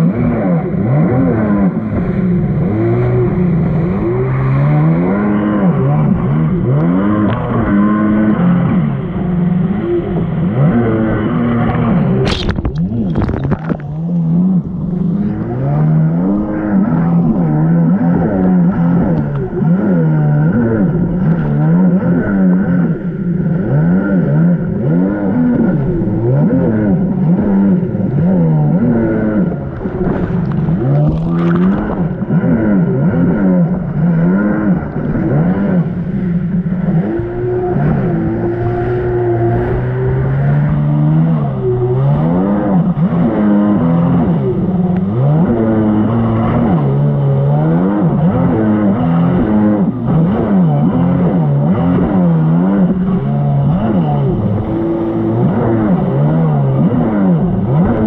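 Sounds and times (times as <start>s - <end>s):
two-stroke engine revving: 0.0s - 58.0s.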